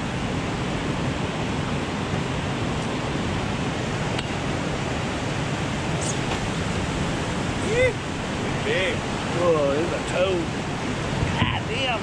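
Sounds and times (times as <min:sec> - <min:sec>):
rushing whitewater: 0:00.0 - 0:12.0.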